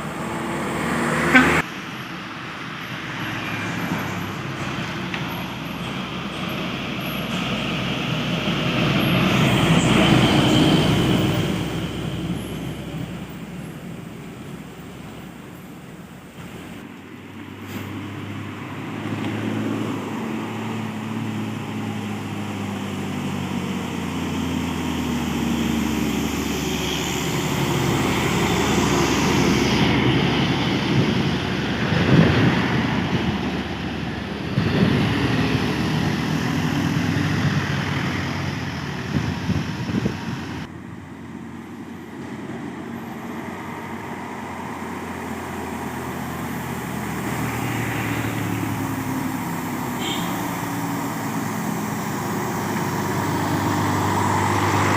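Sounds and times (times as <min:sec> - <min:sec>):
truck diesel engine labouring: 0:00.0 - 0:54.9.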